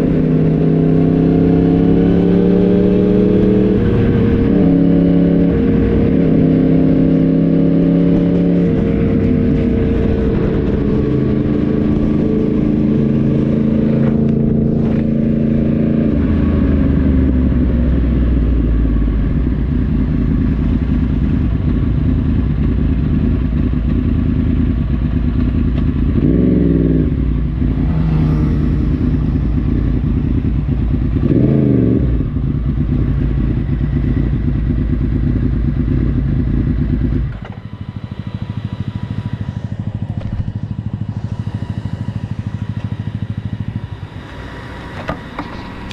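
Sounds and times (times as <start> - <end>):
motorcycle engine while riding: 0.0 - 45.9.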